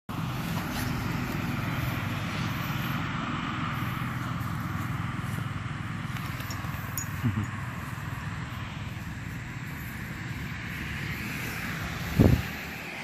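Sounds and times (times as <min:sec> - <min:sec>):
low engine drone: 0:00.1 - 0:13.0.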